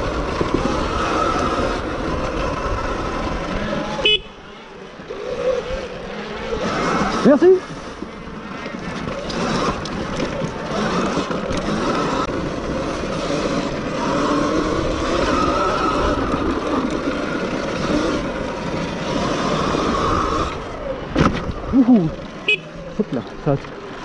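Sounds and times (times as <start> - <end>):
electric motor whine: 0.0 - 21.1
wind rush and riding noise: 0.0 - 24.0.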